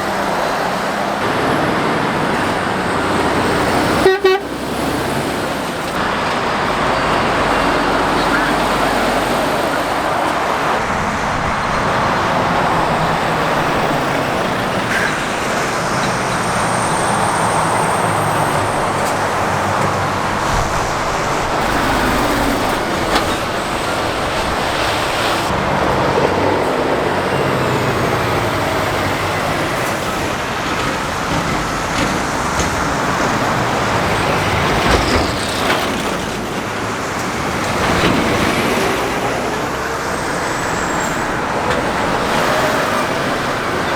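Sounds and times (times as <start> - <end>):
tyres hissing on road: 0.0 - 43.9
vehicles passing: 0.0 - 43.9.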